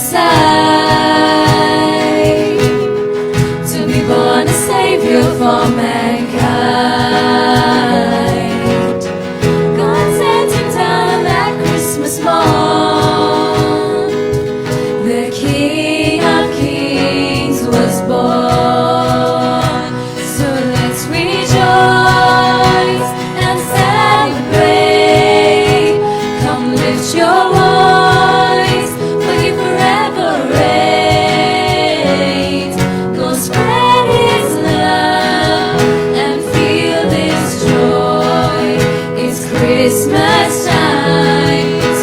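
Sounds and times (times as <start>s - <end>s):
choir singing: 0.0s - 42.0s
instrumental accompaniment: 0.0s - 42.0s.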